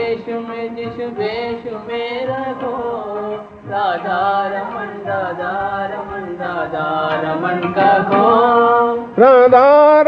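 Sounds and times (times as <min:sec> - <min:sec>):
person chanting devotional song: 0:00.0 - 0:10.0.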